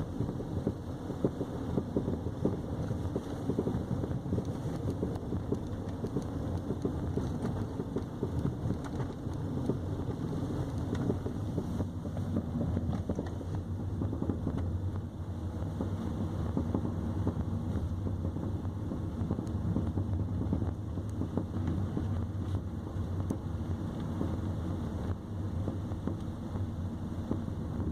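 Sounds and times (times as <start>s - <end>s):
road and tyre rumble: 0.0s - 27.9s.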